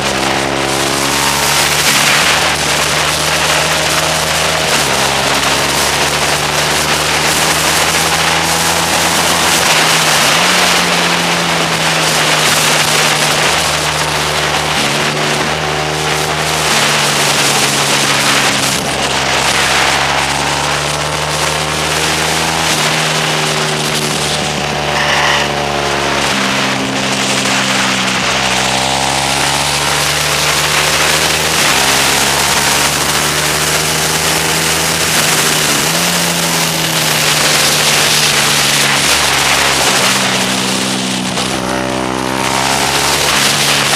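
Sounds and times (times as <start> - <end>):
motorcycle engine racing: 0.0 - 43.9
wind rush over microphone: 0.0 - 43.9.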